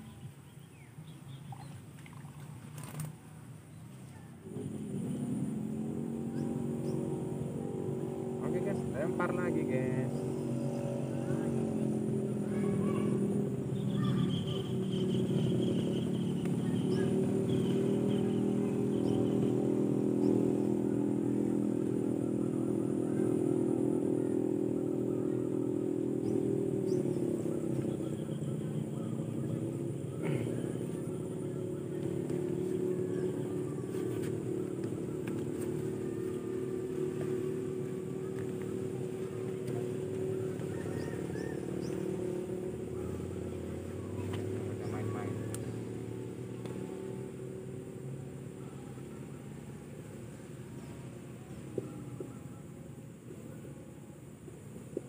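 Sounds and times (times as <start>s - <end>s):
small engine running: 1.0s - 55.0s.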